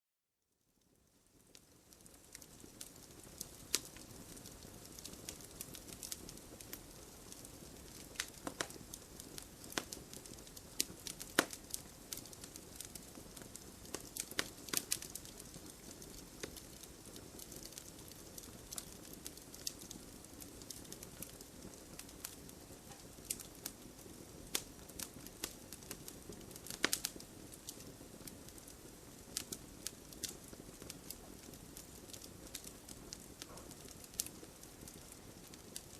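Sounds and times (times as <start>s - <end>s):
wood fire crackling: 0.8s - 35.9s.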